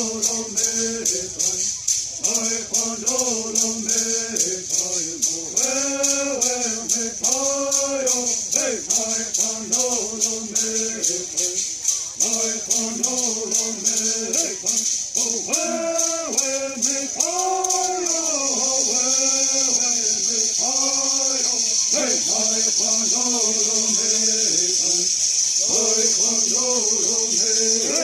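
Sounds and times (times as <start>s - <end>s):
gourd rattles shaken: 0.0s - 28.0s
people singing in unison: 0.0s - 28.0s.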